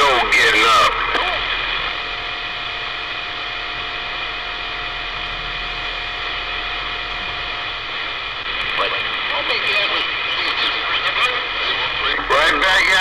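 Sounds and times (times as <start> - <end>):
low hum: 0.0 - 13.0
radio static hiss: 0.0 - 13.0.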